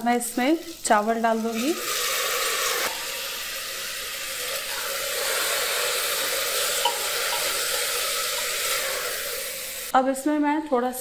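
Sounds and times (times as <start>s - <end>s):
rice and onions sizzling: 0.0s - 9.9s.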